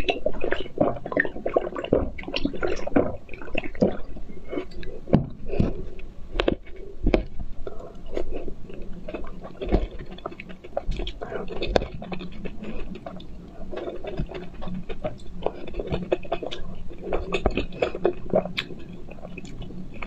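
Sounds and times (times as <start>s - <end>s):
wet chewing: 0.0s - 20.0s.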